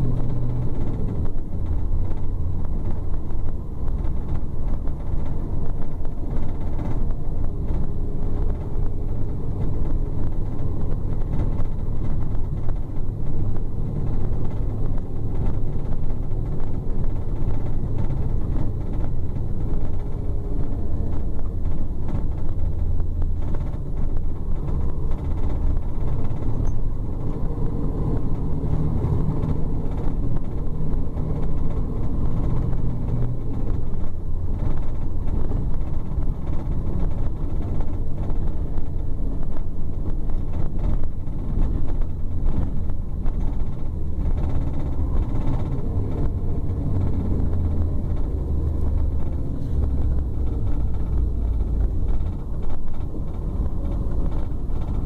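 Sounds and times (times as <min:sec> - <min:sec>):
coach diesel engine rumble: 0:00.0 - 0:55.0
road and tyre noise: 0:00.0 - 0:55.0.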